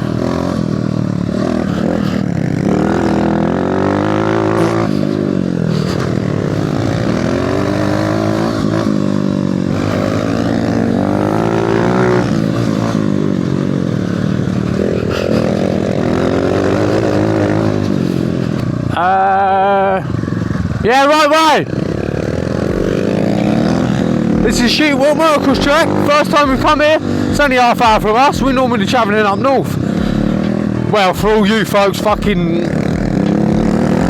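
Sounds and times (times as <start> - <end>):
mini bike engine revving: 0.0 - 34.0.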